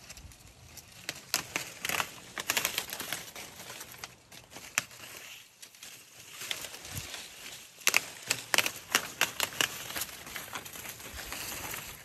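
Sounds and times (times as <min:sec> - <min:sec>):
leafy rustling: 0:00.0 - 0:12.0
leaves snapping off branches: 0:00.0 - 0:12.0.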